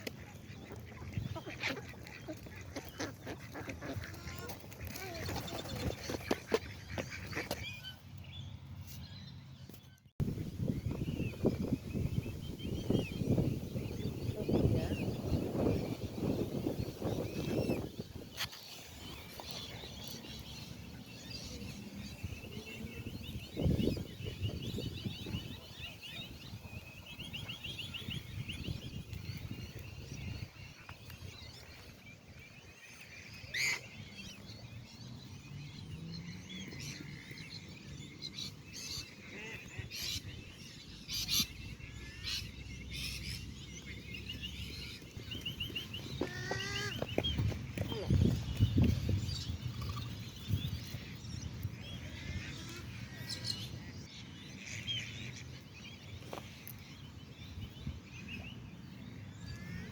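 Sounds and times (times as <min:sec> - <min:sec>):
birds chattering trills: 0:00.0 - 0:08.3, 0:10.4 - 0:59.9.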